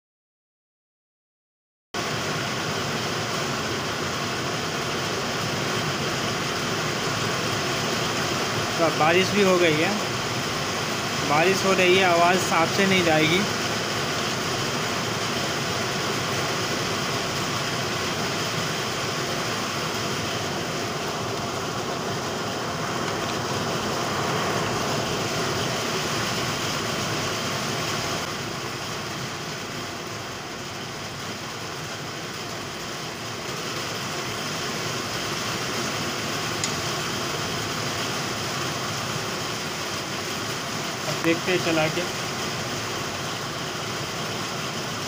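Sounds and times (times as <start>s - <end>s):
rain falling: 2.0s - 45.0s.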